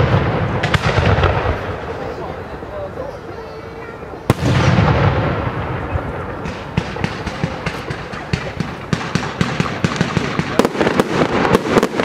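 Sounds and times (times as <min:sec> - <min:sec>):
firework crackling pops: 0:00.0 - 0:02.5, 0:04.2 - 0:12.0.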